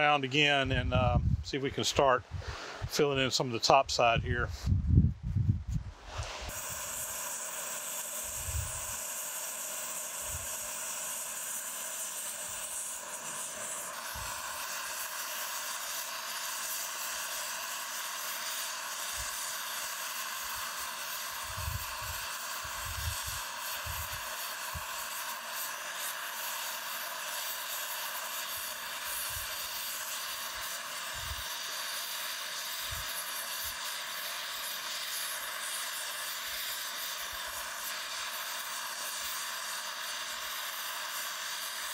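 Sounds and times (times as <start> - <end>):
torch flame hissing: 0.0 - 41.9.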